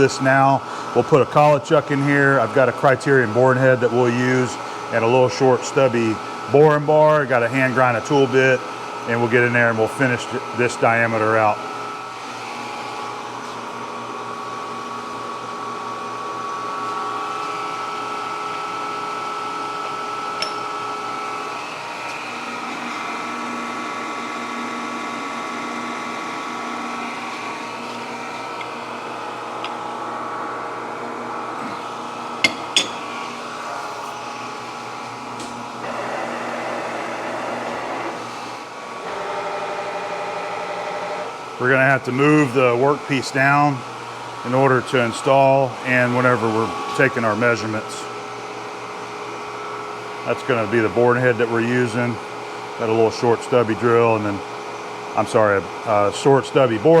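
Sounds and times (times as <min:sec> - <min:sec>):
machine hum with held tones: 0:00.0 - 0:56.8.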